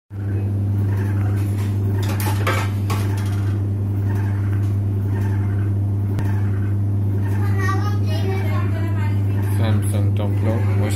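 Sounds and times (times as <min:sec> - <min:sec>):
washing machine spinning hum: 0:00.1 - 0:10.9.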